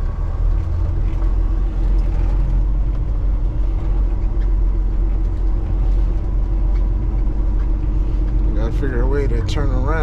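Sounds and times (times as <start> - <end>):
diesel engine low rumble: 0.0 - 10.0.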